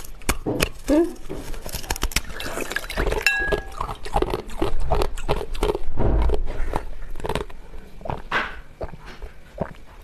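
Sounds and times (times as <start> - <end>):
crunching ice in mouth: 0.0 - 9.0.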